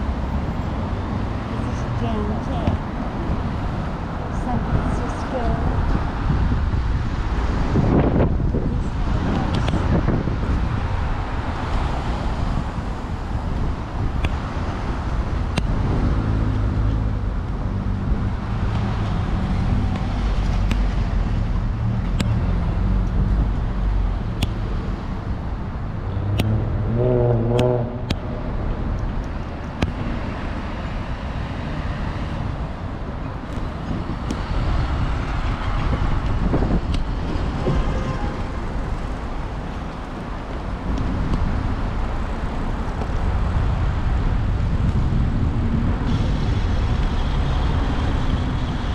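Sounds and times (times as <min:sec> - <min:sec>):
vehicle engines passing: 0:00.0 - 0:48.9.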